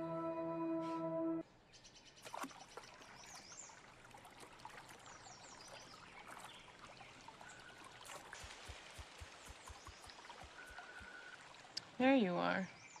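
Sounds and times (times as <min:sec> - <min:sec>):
stream trickling: 0:01.9 - 0:13.0.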